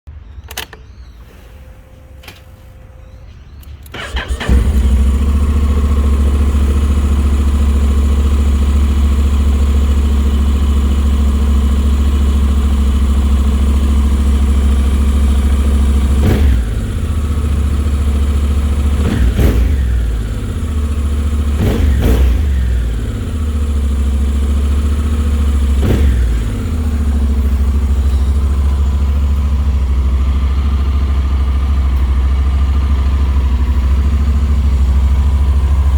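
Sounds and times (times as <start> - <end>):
engine throttle blips: 0.4 - 35.9
motorcycle engine idling: 4.0 - 35.9.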